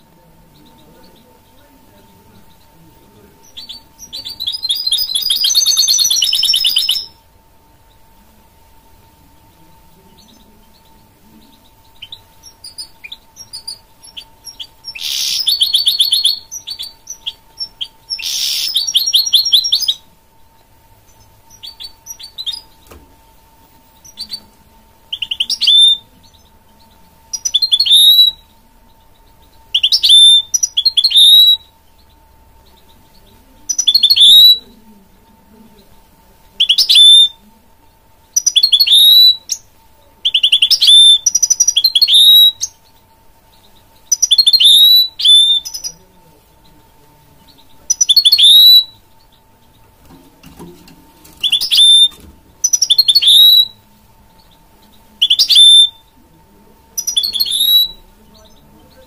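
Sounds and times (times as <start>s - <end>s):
finch singing trilled phrases: 0.0s - 8.2s, 9.2s - 50.6s, 51.2s - 59.0s.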